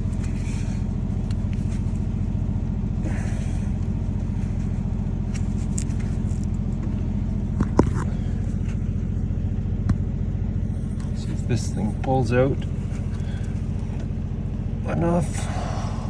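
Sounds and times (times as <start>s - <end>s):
heavy machine engine idling: 0.0s - 16.0s.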